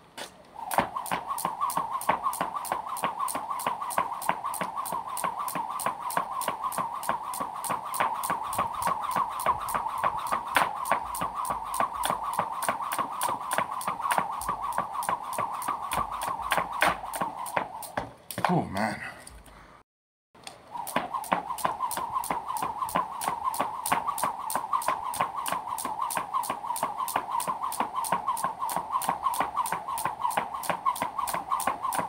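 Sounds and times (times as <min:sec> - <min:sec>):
jump rope slapping the ground: 0:00.2 - 0:18.6, 0:20.8 - 0:32.0
wavering whir: 0:00.3 - 0:18.0, 0:20.6 - 0:32.0.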